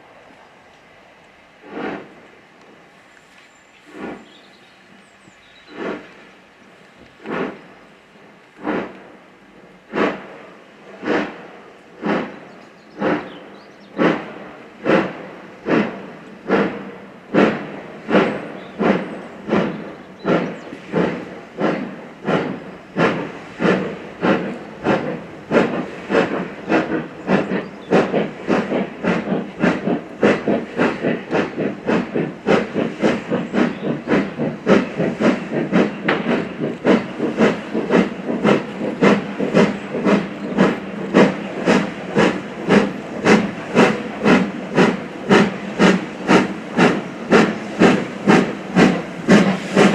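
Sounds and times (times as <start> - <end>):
steam locomotive chuffing: 1.3 - 49.9.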